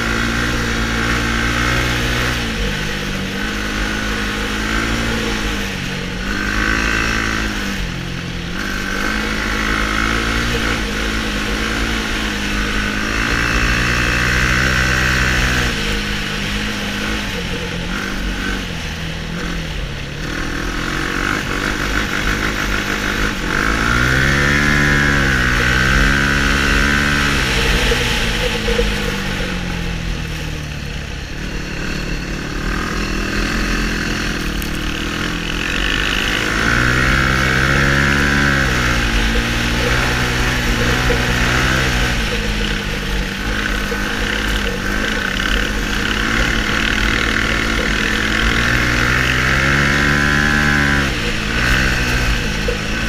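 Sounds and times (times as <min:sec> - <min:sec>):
quad engine revving: 0:00.0 - 0:53.0.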